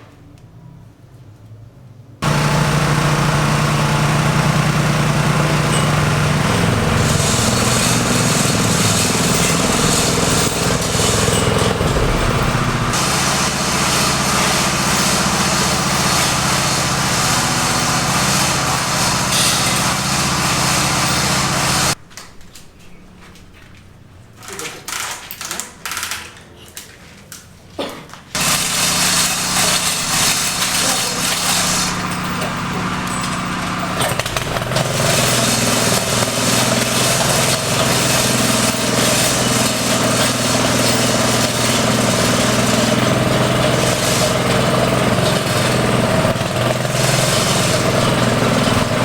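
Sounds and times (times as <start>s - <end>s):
small engine running: 2.2s - 22.0s, 28.4s - 49.0s.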